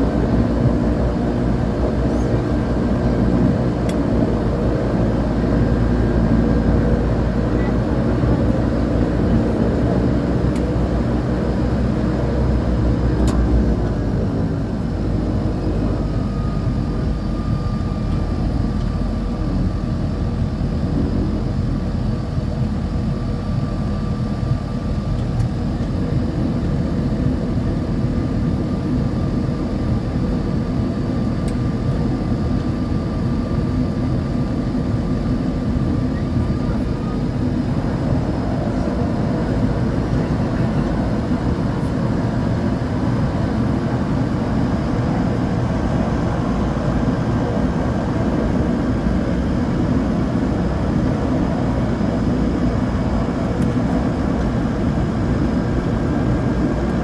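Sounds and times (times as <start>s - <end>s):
high turbine whine: 0.0s - 57.0s
turboprop engine drone: 0.0s - 57.0s.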